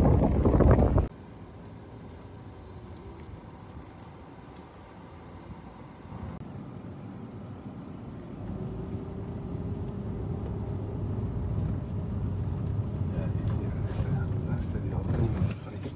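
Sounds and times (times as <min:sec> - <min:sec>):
vehicle driving rumble: 0:00.0 - 0:15.9.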